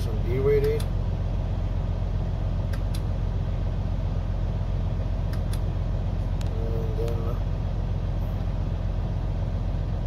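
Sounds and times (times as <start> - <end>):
truck diesel engine idling: 0.0 - 10.0.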